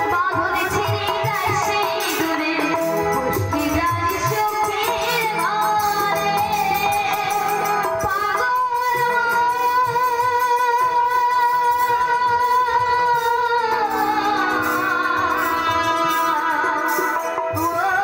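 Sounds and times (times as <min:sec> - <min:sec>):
drums: 0:00.0 - 0:18.0.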